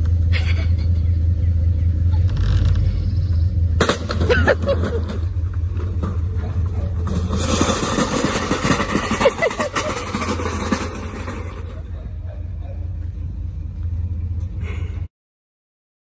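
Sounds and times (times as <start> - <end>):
engine idling: 0.0 - 15.1
metal scraping along asphalt: 1.0 - 14.6.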